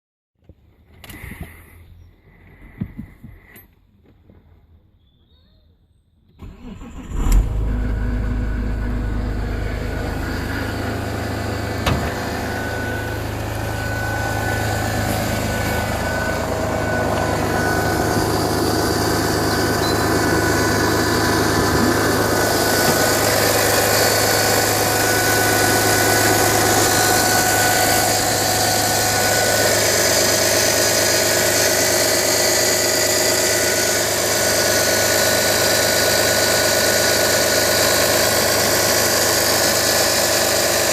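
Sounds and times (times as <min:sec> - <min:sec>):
diesel engine starting and idling: 0:06.3 - 0:40.9.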